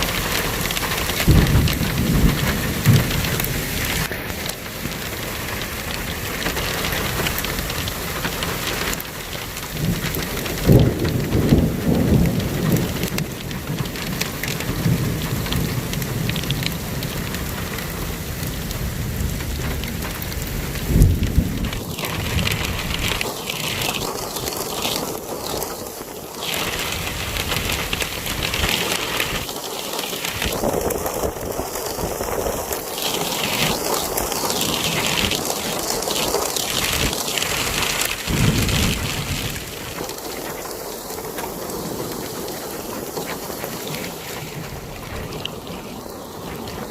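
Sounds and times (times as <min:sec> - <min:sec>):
steady rain falling: 0:00.0 - 0:46.9
thunder rumbles: 0:00.0 - 0:46.9.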